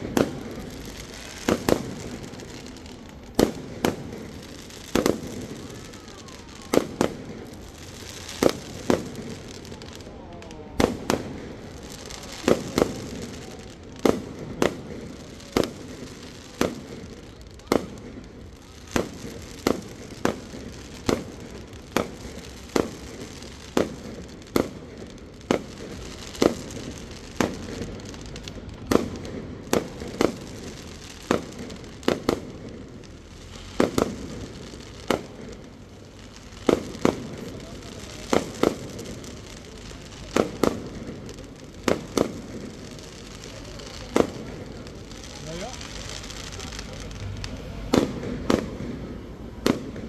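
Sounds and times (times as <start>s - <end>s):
fireworks bursting: 0.0s - 50.0s
fireworks crackling: 0.0s - 50.0s.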